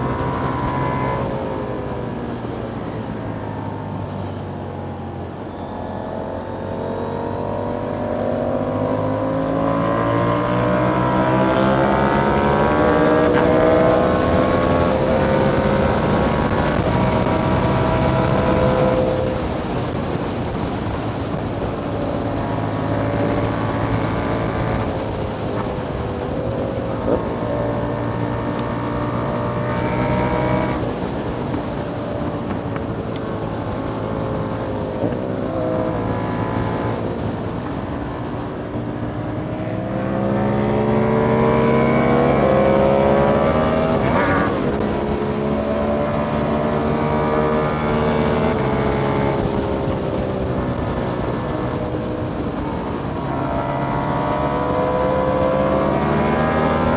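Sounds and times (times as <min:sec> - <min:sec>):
motorcycle engine revving: 0:05.6 - 0:56.9.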